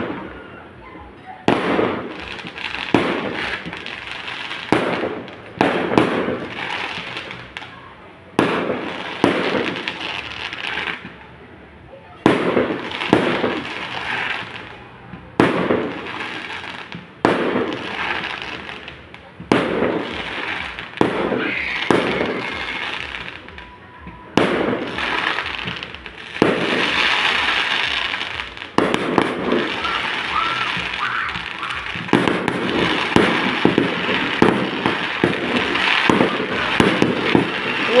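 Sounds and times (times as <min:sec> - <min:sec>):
fireworks bangs: 0:00.0 - 0:38.0
fireworks crackling hiss: 0:00.0 - 0:38.0.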